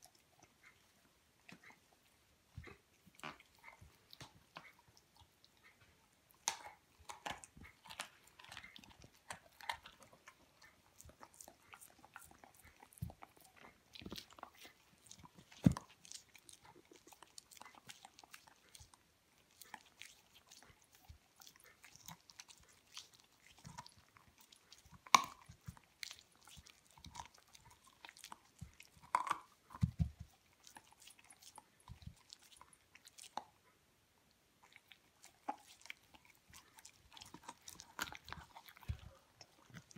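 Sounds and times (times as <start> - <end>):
dog chewing meat and bone: 0.0 - 33.8, 34.6 - 39.9.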